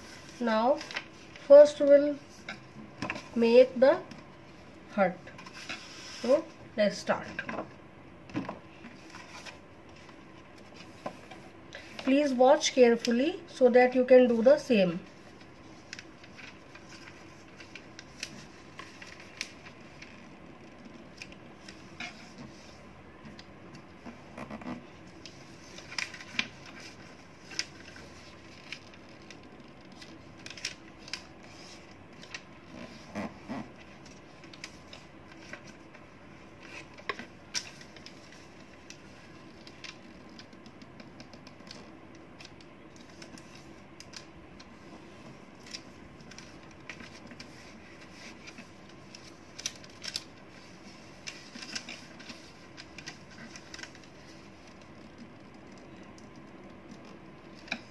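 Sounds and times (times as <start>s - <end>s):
paper being folded and creased: 0.0s - 3.8s, 5.2s - 7.7s, 8.7s - 12.4s, 14.3s - 57.9s.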